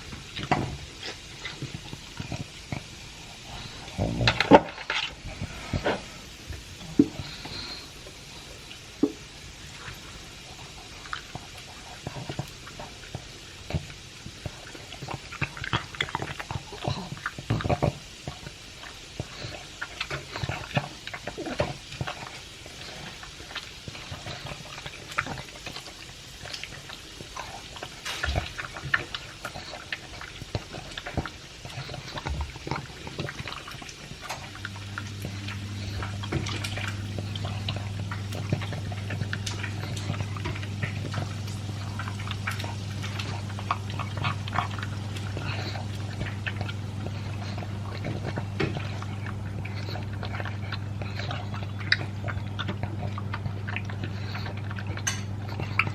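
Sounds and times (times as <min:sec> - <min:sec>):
dog crunching and chewing kibble: 0:00.0 - 0:55.9.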